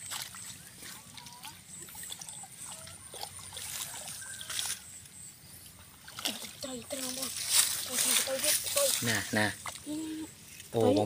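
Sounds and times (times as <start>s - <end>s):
hands sloshing in muddy water: 0.0s - 10.0s
small water splashes: 0.0s - 11.0s.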